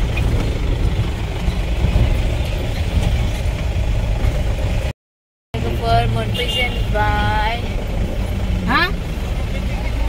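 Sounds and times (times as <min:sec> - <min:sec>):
vehicle engine and road rumble: 0:00.0 - 0:05.0, 0:05.6 - 0:10.0.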